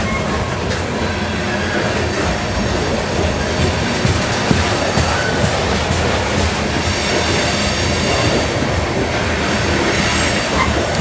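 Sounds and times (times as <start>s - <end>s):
freight train wheels clattering: 0.0s - 11.0s.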